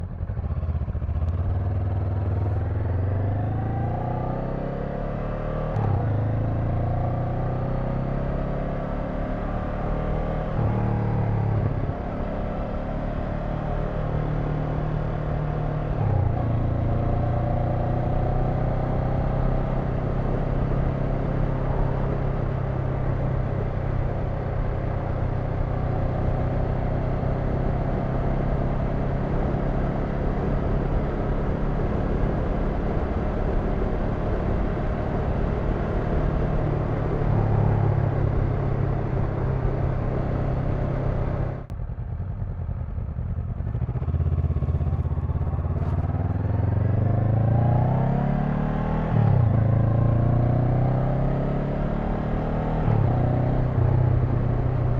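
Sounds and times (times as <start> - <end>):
motorcycle engine shifting gears: 0.3 - 54.9.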